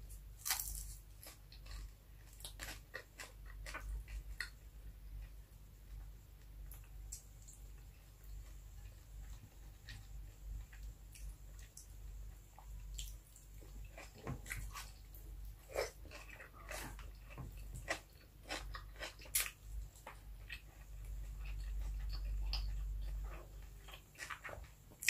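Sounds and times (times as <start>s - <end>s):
steady low hum: 0.0s - 25.0s
person chewing food: 0.4s - 25.0s.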